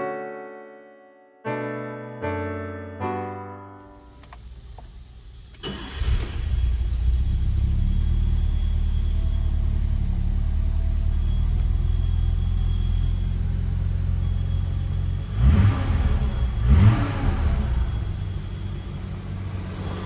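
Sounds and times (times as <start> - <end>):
car engine starting and idling: 3.8 - 20.0.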